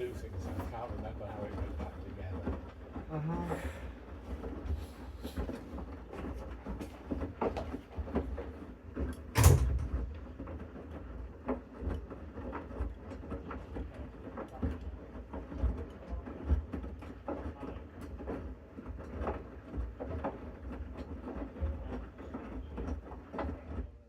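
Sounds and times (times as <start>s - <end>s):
washing machine rumbling: 0.0s - 24.0s.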